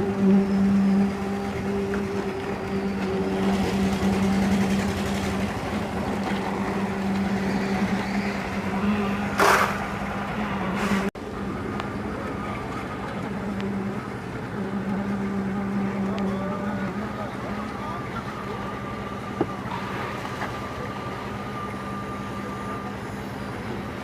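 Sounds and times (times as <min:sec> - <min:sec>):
heavy machinery engine humming: 0:00.0 - 0:24.0.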